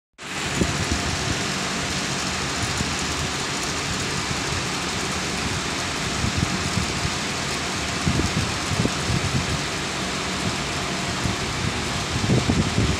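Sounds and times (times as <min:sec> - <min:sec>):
industrial fans rushing: 0:00.2 - 0:12.9.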